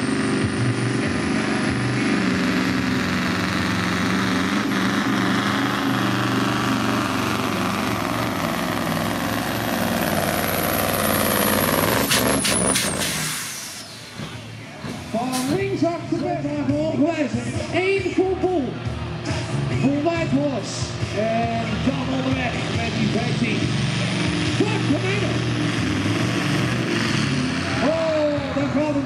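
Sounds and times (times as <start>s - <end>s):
diesel engine running flat out: 0.0s - 29.0s.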